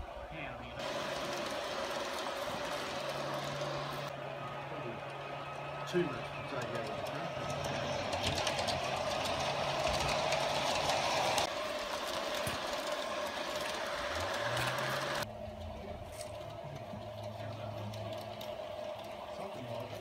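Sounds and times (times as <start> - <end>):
model train mechanical whir: 0.0 - 20.0
wheels clicking on rails: 0.0 - 20.0.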